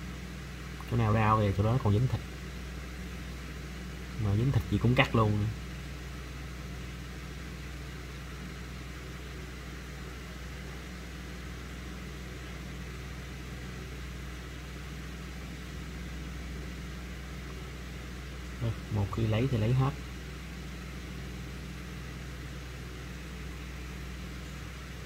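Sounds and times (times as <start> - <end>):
steady low hum with hiss: 0.0 - 25.0.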